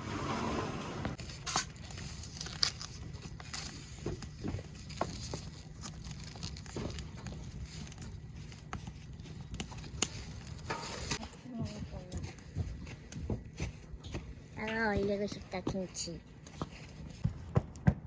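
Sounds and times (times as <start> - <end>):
wood fire crackling and popping: 1.1 - 18.0.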